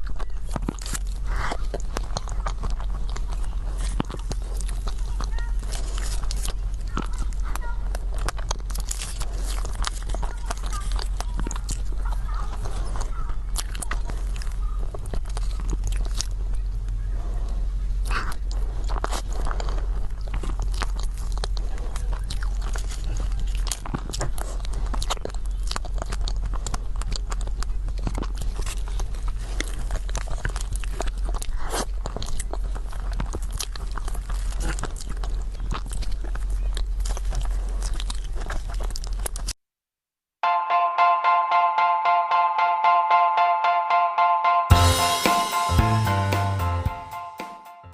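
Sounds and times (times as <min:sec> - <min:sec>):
biting and chewing cake: 0:00.0 - 0:39.6.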